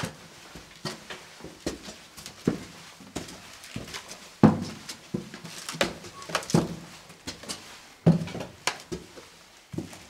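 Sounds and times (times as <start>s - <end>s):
footsteps on a hard floor: 0.0s - 10.0s.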